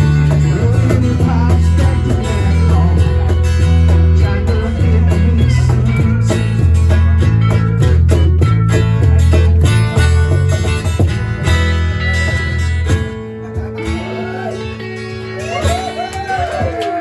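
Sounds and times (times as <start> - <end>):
steady bass line: 0.0 - 16.8
country band instrumental: 0.0 - 17.0
guitars: 0.0 - 17.0.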